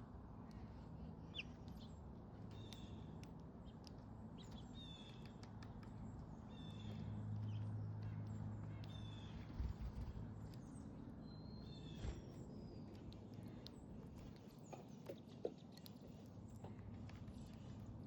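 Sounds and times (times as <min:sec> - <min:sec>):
songbirds chirping: 0:00.3 - 0:18.0.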